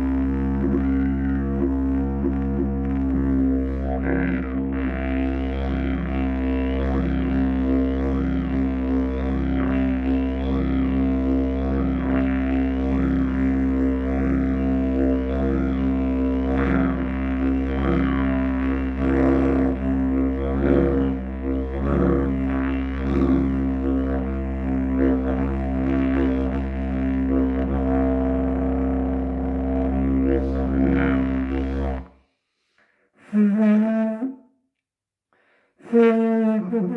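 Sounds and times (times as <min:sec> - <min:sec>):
didgeridoo drone: 0:00.0 - 0:32.1.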